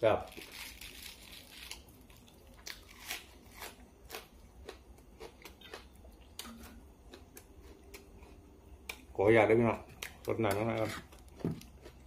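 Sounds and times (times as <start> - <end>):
crunchy chewing of raw vegetable: 0.3 - 9.1, 9.7 - 12.0.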